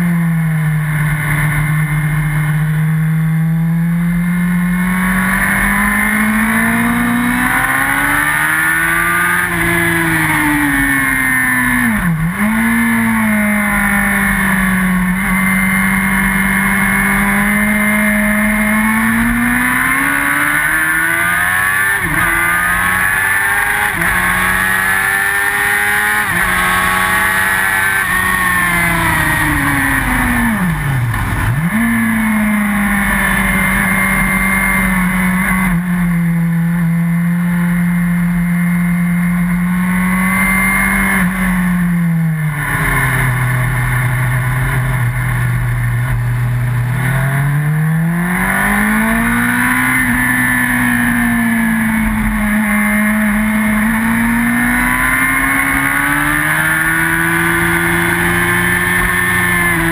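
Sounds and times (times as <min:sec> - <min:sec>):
motorcycle engine at racing speed: 0:00.0 - 0:59.9.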